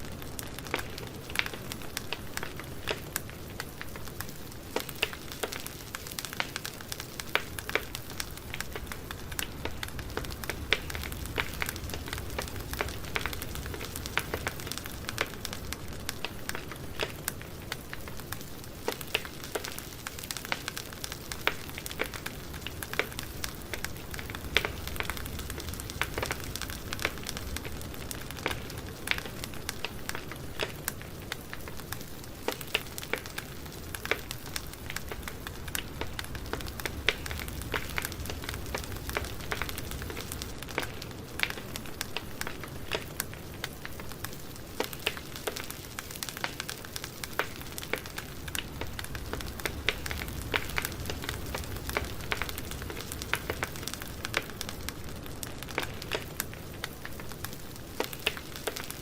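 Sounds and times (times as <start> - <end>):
campfire rumble: 0.0 - 59.0
wood crackling and popping: 0.0 - 59.0.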